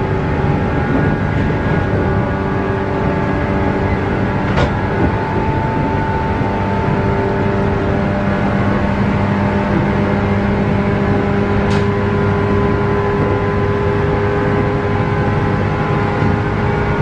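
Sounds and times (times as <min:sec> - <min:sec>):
traction motors whining: 0:00.0 - 0:17.0
train wheels rumbling on rails: 0:00.0 - 0:17.0.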